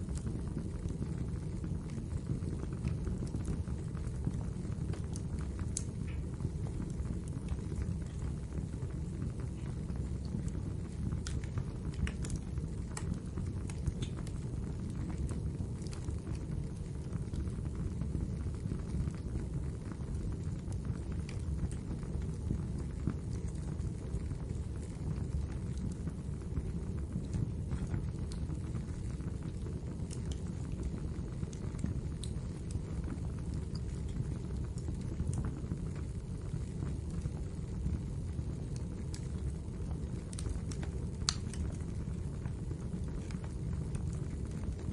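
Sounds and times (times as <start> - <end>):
fire crackling and popping: 0.0 - 44.9
fire flames rumbling: 0.0 - 44.9.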